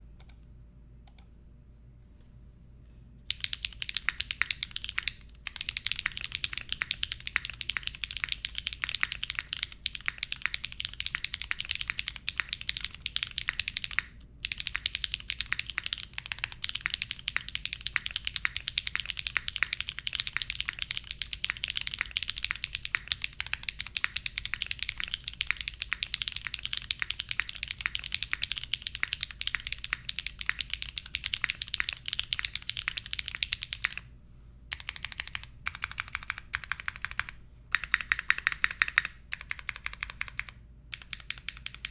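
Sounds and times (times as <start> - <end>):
fast typing on mechanical keyboard: 3.3 - 34.1, 34.7 - 41.9.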